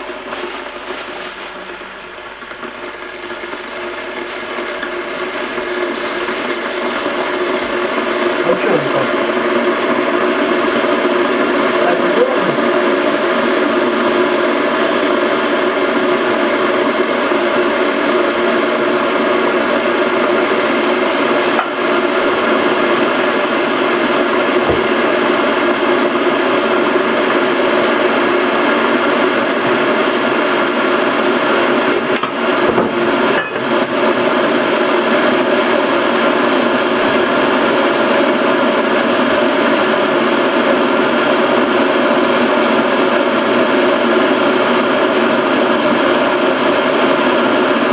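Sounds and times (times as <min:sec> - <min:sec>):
kettle water heating hiss: 0:00.0 - 0:47.9.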